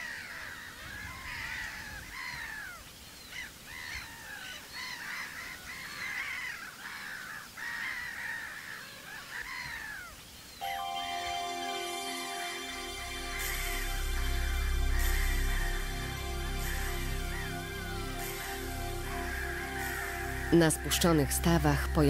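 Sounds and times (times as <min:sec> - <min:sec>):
gulls calling: 0:03.4 - 0:22.0.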